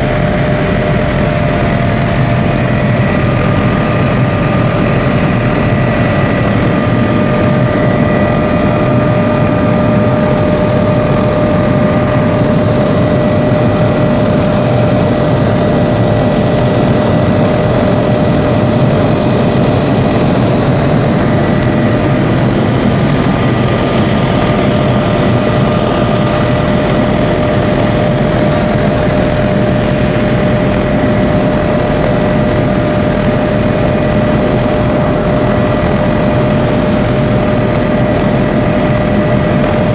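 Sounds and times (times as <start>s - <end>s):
constant whine: 0.0s - 39.9s
helicopter engine and rotor drone: 0.0s - 39.9s.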